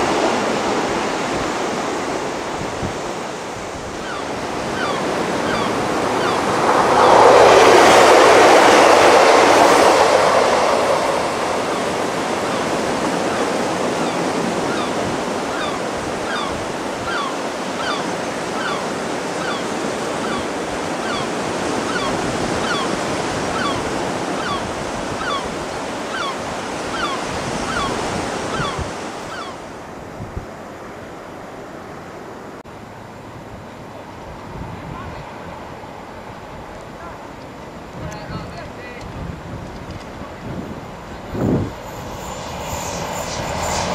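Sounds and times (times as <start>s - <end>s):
wind on microphone: 0.0s - 30.7s, 37.8s - 43.9s.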